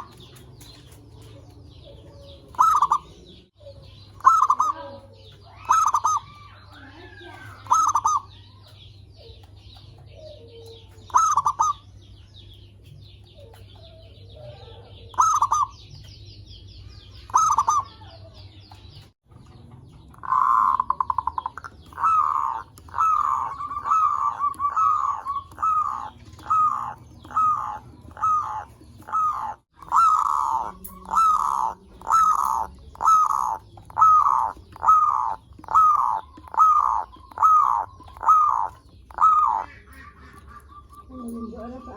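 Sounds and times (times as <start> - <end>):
doves cooing: 0.0 - 41.9.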